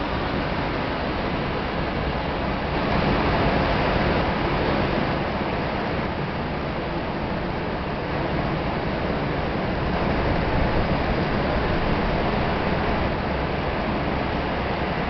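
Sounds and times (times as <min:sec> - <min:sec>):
steady rushing background noise: 0:00.0 - 0:15.0.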